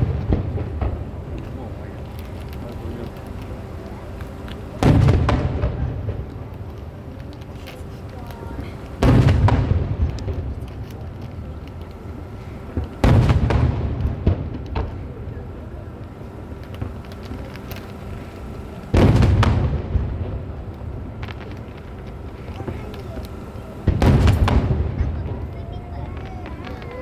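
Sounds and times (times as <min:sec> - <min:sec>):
fireworks booming: 0:00.0 - 0:27.0
small firework pops and cracks: 0:00.0 - 0:27.0.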